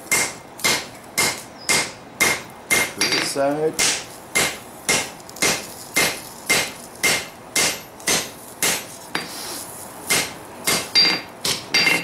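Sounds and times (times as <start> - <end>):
hammer striking steel on anvil: 0.1 - 9.3, 10.1 - 12.0.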